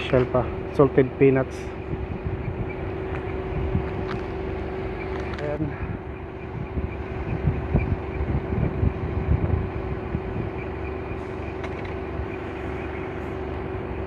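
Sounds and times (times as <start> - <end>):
low mechanical hum: 0.0 - 14.0
low rumbling and thumps: 0.0 - 14.0.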